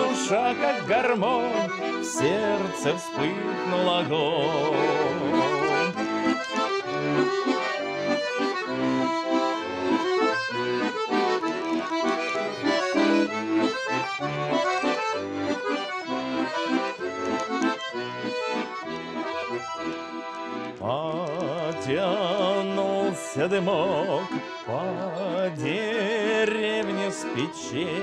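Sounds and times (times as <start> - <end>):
accordion folk melody: 0.0 - 28.0.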